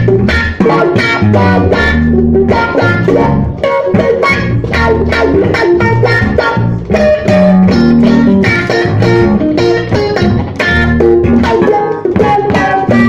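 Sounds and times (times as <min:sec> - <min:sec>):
bass guitar: 0:00.0 - 0:13.0
electric guitar: 0:00.0 - 0:13.0.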